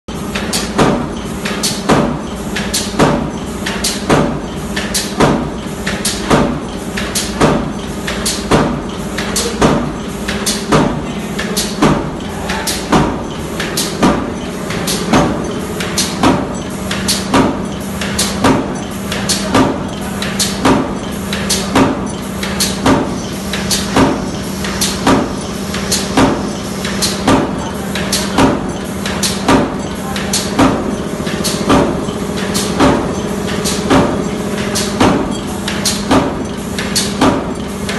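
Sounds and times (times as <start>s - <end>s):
hum of running machinery: 0.1s - 37.9s.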